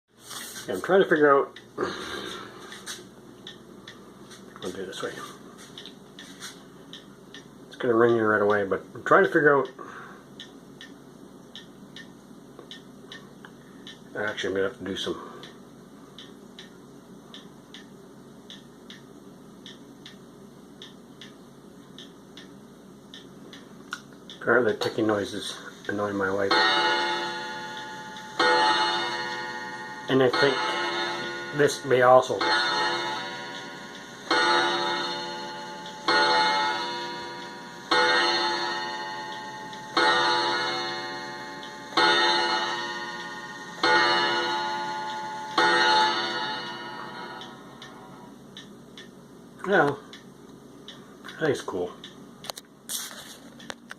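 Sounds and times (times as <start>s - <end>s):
wall clock ticking: 0.8s - 52.2s.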